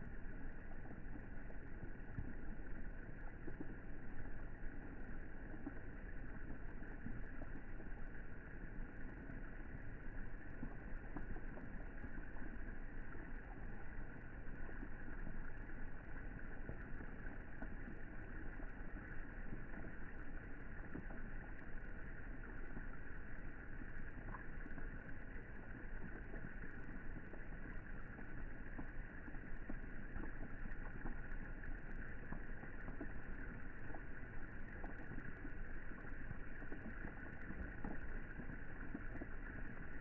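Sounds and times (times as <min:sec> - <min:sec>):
drops ticking: 0:00.0 - 0:40.0
rain falling on pool water: 0:00.0 - 0:40.0.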